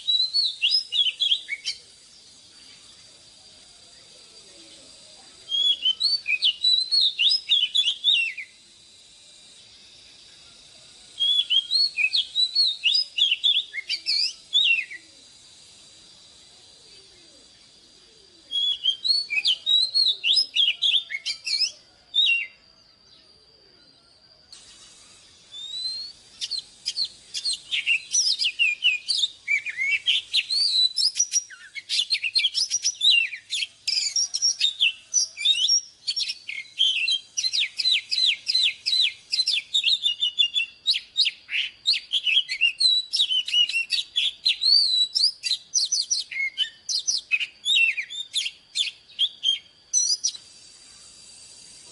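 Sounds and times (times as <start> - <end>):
bird singing whistled notes: 0.0 - 51.9.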